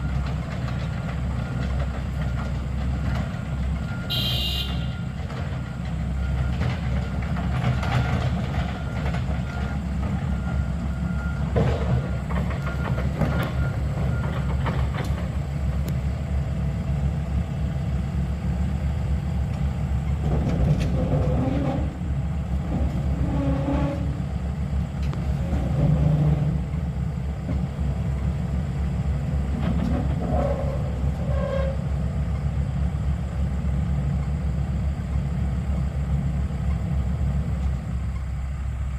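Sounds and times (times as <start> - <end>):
heavy machinery engine: 0.0 - 38.9.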